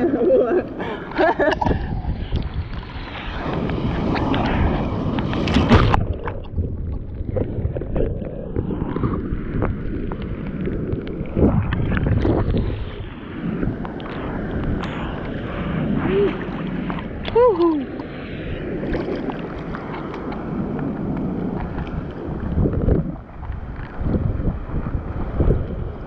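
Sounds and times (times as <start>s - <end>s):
wind on microphone: 0.0s - 26.0s
seawater splashing: 2.8s - 24.7s.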